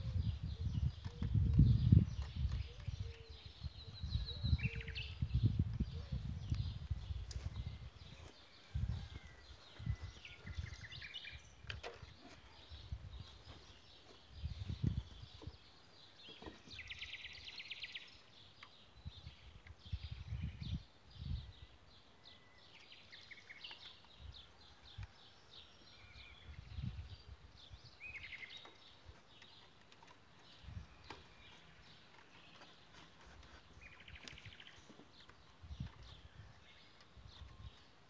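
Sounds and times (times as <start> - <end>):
small birds chirping and trilling: 0.0 - 38.0.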